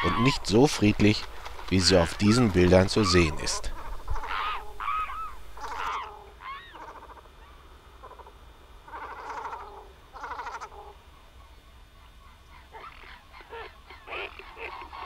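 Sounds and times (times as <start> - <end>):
birds making harsh calls: 0.0 - 11.0, 11.9 - 15.0.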